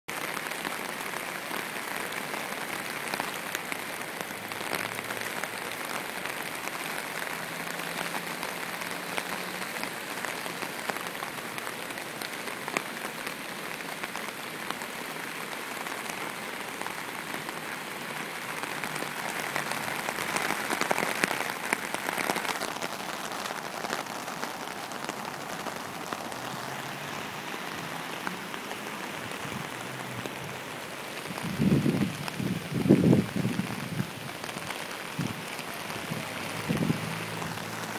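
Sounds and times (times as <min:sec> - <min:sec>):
rain falling: 0:00.0 - 0:37.9.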